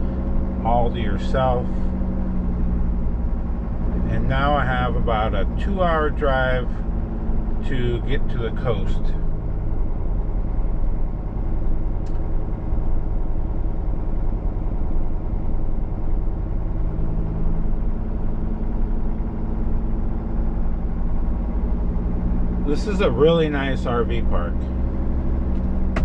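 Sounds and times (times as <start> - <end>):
engine and road noise drone: 0.0 - 26.0.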